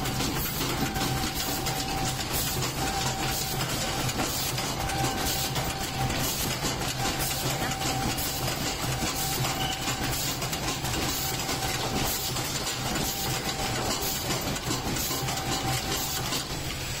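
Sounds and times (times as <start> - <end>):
machine clattering: 0.0 - 16.8.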